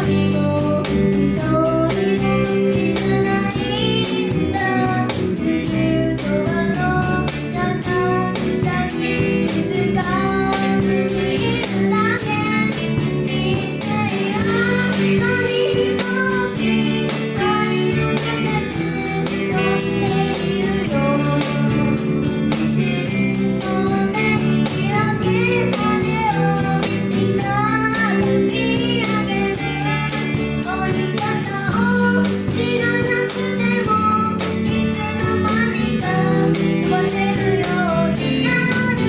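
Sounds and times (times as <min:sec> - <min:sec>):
child singing: 0:00.0 - 0:39.0
drum kit beat: 0:00.0 - 0:39.0
guitar: 0:00.0 - 0:39.0.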